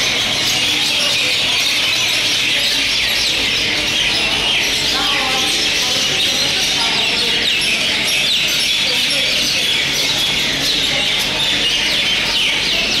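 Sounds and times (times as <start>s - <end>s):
mynas chirping: 0.0s - 13.0s.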